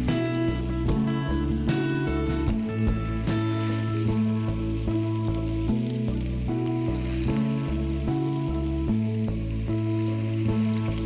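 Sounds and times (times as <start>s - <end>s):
background music with bass: 0.0s - 11.0s
fish sizzling in hot oil: 0.0s - 11.0s.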